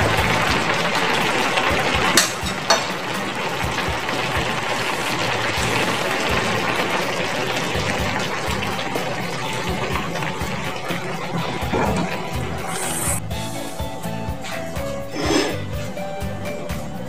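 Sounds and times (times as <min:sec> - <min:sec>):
food sizzling in a frying pan: 0:00.0 - 0:13.8.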